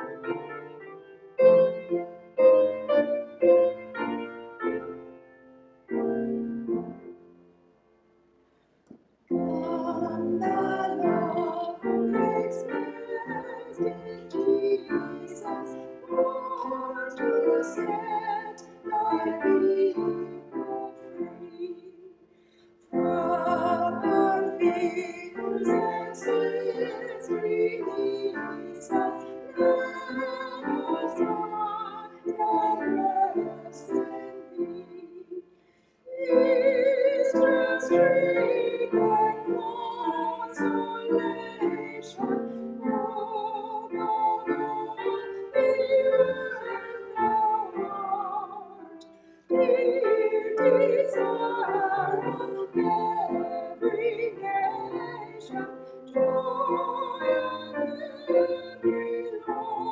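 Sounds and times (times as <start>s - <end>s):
classical choral singing: 0.0s - 7.5s, 9.3s - 59.9s
instrumental accompaniment: 0.0s - 59.9s.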